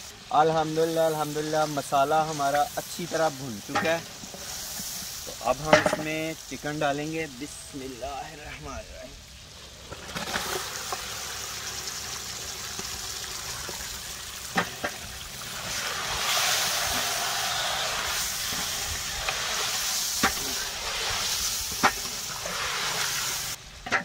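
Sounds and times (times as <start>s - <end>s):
chicken sizzling in hot oil: 0.0s - 23.8s.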